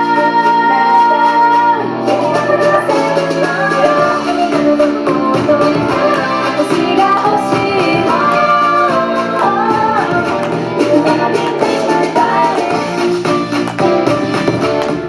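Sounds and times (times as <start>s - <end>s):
woman singing: 0.0s - 13.2s
pop song over loudspeakers: 0.0s - 15.0s.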